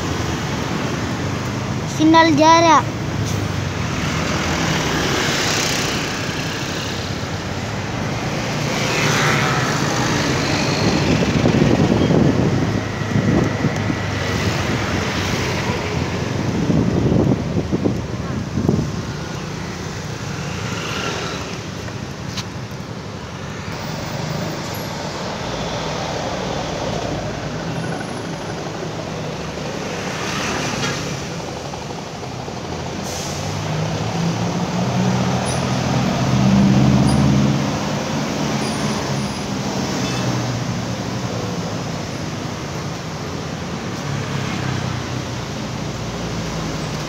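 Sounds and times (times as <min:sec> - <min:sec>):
city street traffic: 0:00.0 - 0:47.0.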